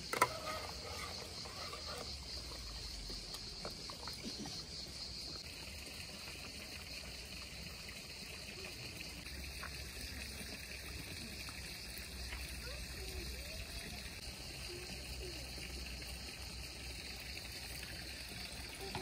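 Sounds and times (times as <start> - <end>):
insects chirring: 0.0 - 19.0
spring water running: 0.0 - 19.0.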